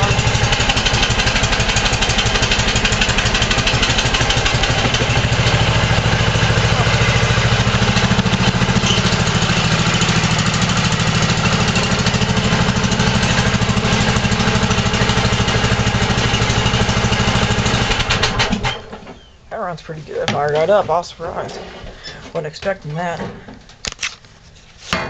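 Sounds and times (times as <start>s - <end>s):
lawn tractor engine running: 0.0s - 21.6s.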